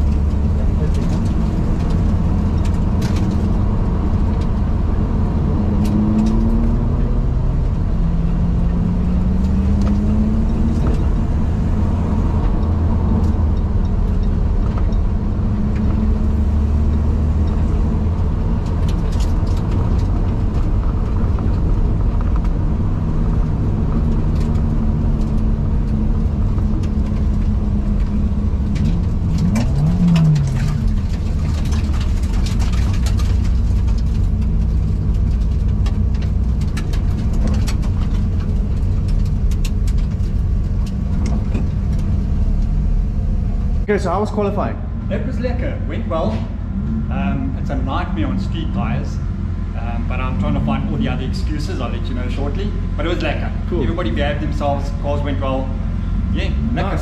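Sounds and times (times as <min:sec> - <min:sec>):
car engine rumbling: 0:00.0 - 0:57.0
engine revving: 0:00.0 - 0:57.0
road noise: 0:00.0 - 0:57.0.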